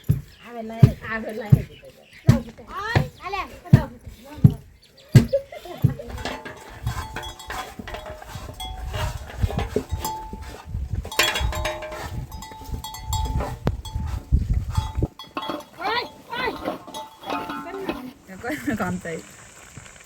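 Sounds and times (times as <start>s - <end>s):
livestock bells clinking: 0.0s - 19.6s.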